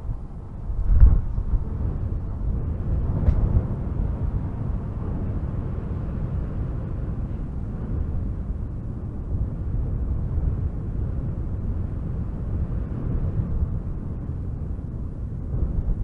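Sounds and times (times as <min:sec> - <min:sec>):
strong wind through trees: 0:00.0 - 0:16.0.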